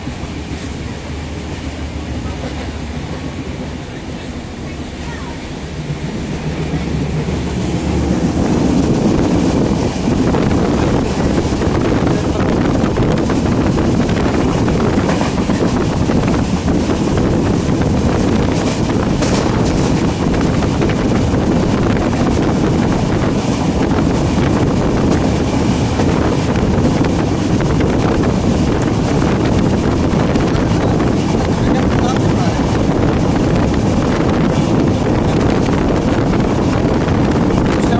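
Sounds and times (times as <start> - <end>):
passenger train rumble: 0.0 - 37.9
wind buffeting microphone: 0.0 - 37.9.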